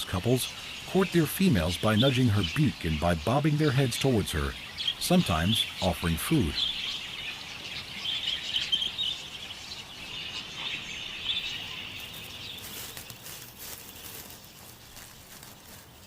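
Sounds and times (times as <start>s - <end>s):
budgerigars chattering and chirping: 0.0s - 16.0s.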